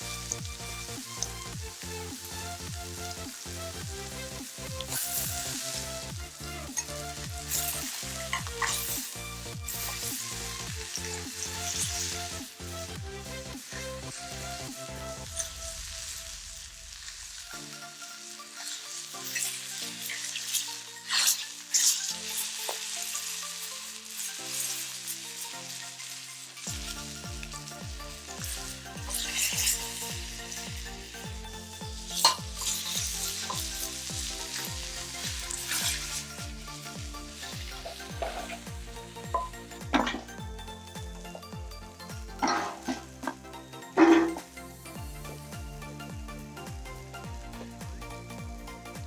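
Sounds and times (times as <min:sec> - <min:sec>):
electronic dance music: 0:00.0 - 0:20.0, 0:20.8 - 0:49.0
beef sizzling in frying pan: 0:00.0 - 0:48.0.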